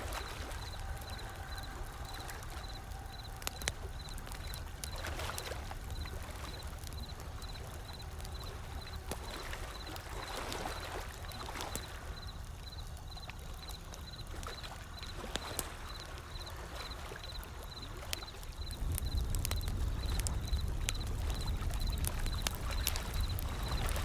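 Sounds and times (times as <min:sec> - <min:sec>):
ocean waves: 0:00.0 - 0:24.0
wood fire crackling: 0:00.0 - 0:24.0.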